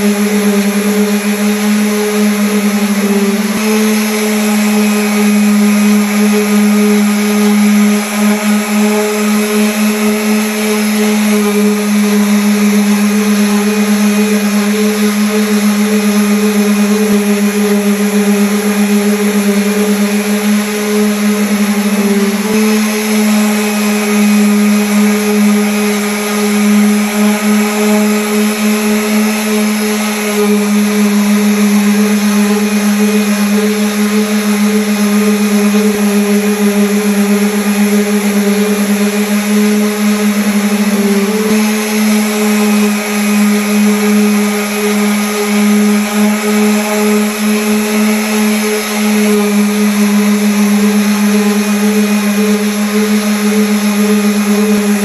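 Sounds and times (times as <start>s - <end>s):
electric sander on wood: 0.0s - 55.0s.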